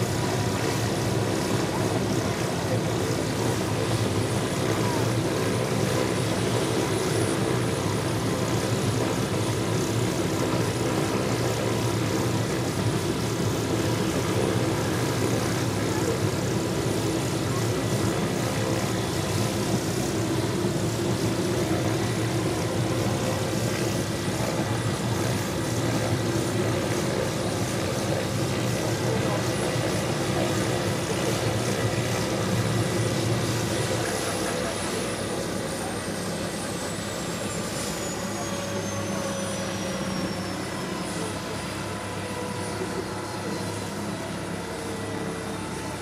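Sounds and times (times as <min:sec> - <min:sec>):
helicopter rotor noise: 0:00.0 - 0:46.0
helicopter turbine whine: 0:00.0 - 0:46.0.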